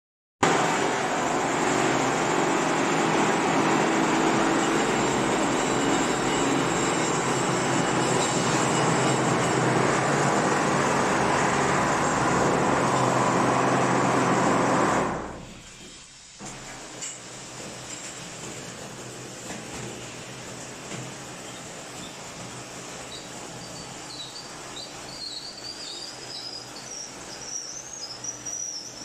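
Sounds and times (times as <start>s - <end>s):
plastering machine running: 0.4s - 29.0s.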